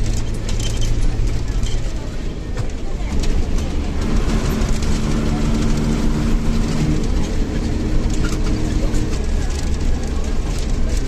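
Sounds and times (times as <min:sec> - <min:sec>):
bus engine and road drone: 0:00.0 - 0:11.0
rattles: 0:00.0 - 0:11.0.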